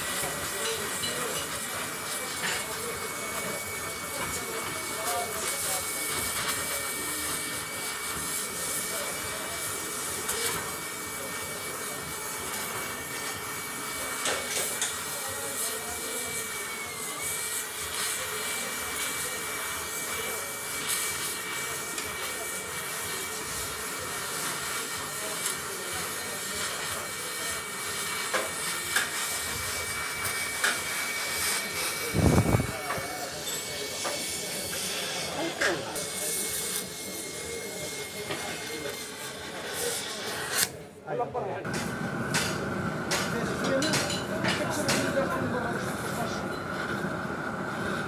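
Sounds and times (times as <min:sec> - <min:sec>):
gas torch flame hissing: 0:00.0 - 0:40.9, 0:41.6 - 0:48.0.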